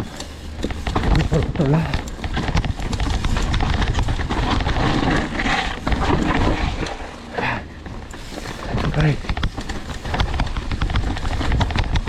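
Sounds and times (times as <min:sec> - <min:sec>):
bike rattling on rough trail: 0:00.0 - 0:12.0
wind rumble on microphone: 0:00.8 - 0:07.2, 0:07.9 - 0:12.0.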